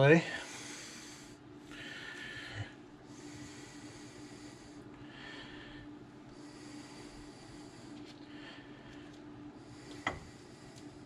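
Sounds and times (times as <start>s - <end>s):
faint steady hum: 0.0s - 11.0s
person breathing through nose: 0.3s - 11.0s.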